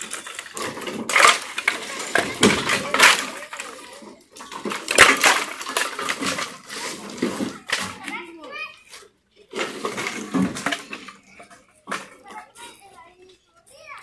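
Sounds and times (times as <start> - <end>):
firewood sticks clattering: 0.0 - 13.0.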